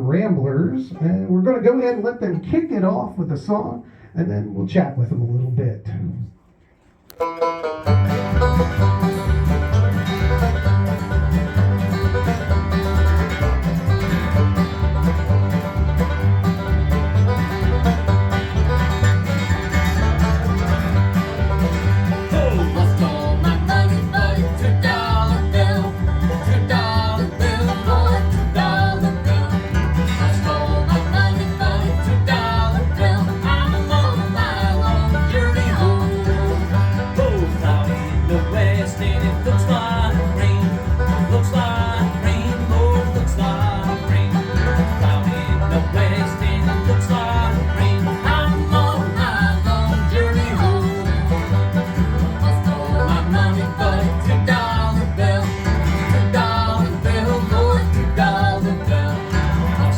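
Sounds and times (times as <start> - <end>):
banjo picking: 0.0 - 3.6, 6.6 - 59.9
bluegrass band playing live: 0.0 - 4.1, 6.7 - 59.9.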